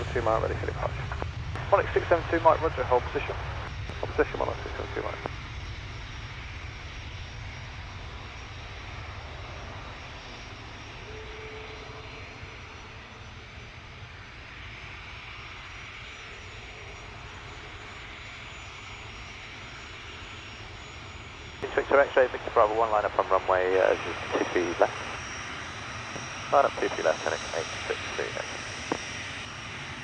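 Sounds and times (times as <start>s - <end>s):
distant jet engines running: 0.0s - 30.0s.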